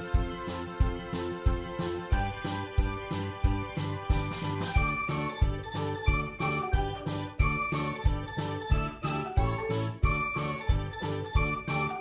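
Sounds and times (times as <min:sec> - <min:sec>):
background music with steady beat: 0:00.0 - 0:12.0
bell-like high notes: 0:02.2 - 0:12.0.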